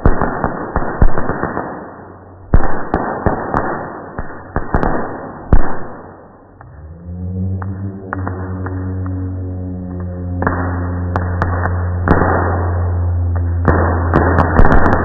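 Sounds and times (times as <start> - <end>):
fireworks bangs with crackling rumble: 0.0 - 6.6, 7.6 - 15.0.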